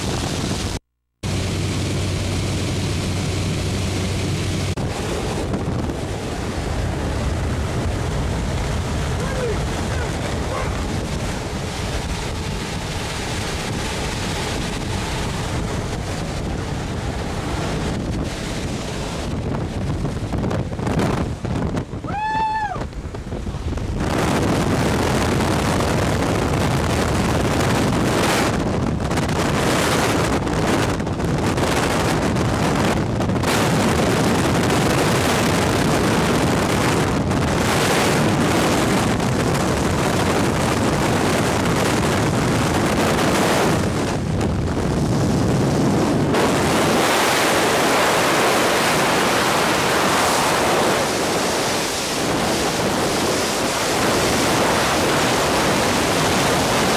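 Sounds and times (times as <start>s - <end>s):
wind blasting microphone: 0.0s - 56.9s.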